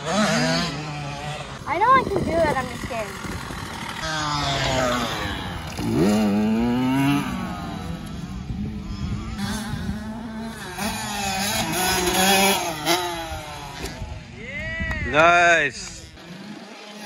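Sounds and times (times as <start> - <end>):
dirt bike engine revving: 0.0 - 14.3, 15.8 - 17.0.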